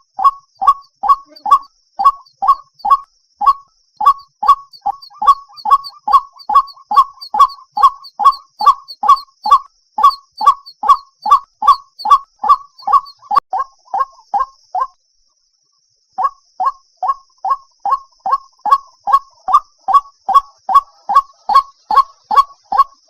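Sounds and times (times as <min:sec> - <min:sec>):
waterhen calling: 0:00.0 - 0:14.9, 0:16.2 - 0:23.0.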